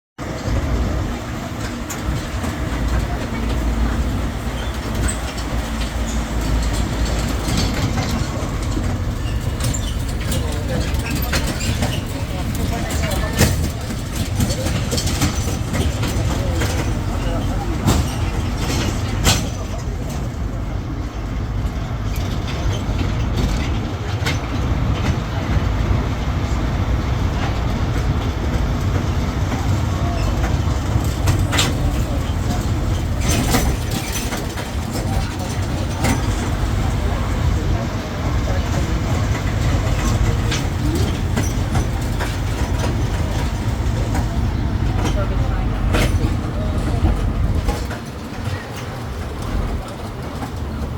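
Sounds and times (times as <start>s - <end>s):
carriages clicking and rattling: 0.2s - 50.9s
low engine rumble: 0.2s - 50.9s.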